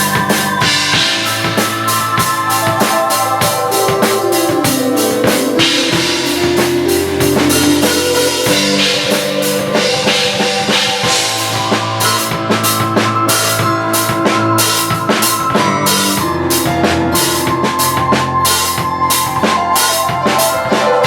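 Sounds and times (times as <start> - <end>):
drum kit playing: 0.0 - 21.0
held keyboard chords: 0.0 - 21.0.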